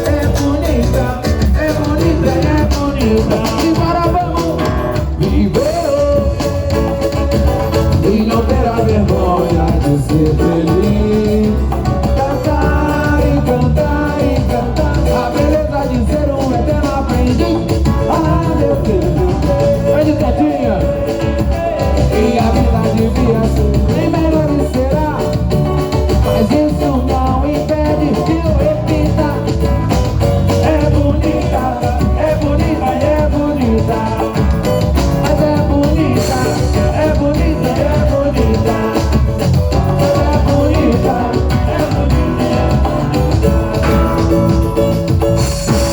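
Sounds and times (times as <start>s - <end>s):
samba music: 0.0s - 45.9s.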